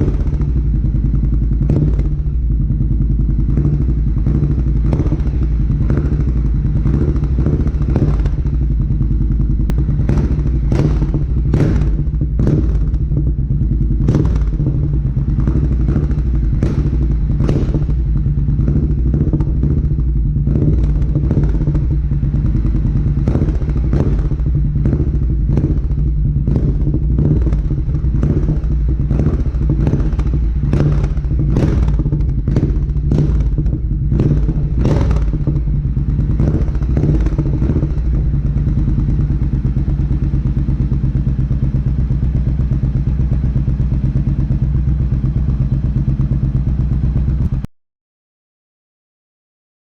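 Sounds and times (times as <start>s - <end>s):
motorcycle engine idling: 0.0s - 47.7s.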